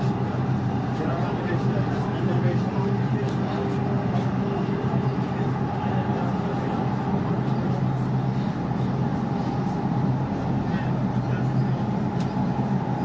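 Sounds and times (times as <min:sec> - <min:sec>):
electric train hum: 0:00.0 - 0:13.0.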